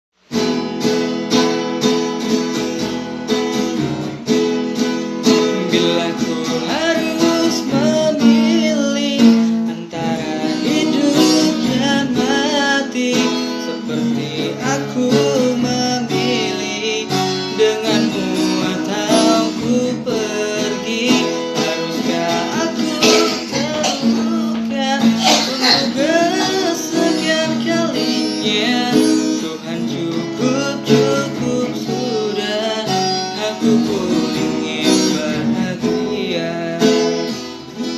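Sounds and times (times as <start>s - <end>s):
acoustic guitar strumming: 0.2s - 37.9s
person singing: 5.1s - 37.6s.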